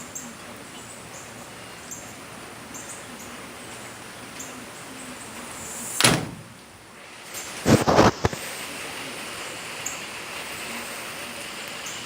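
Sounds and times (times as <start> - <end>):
heavy rain falling: 0.3 - 12.0.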